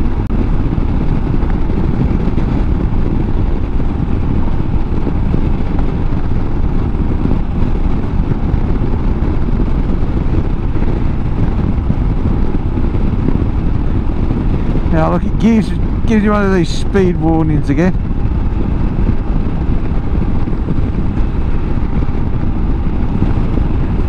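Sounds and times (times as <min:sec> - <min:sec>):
motorcycle engine cruising: 0:00.0 - 0:24.0
wind rushing: 0:00.0 - 0:24.0.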